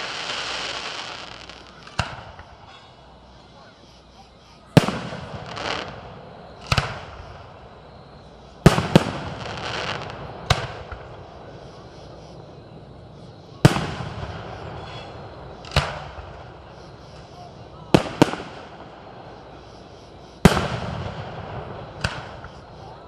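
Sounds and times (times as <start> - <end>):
fireworks bangs: 0.0 - 23.0
fireworks rumble and crackle: 0.0 - 23.0.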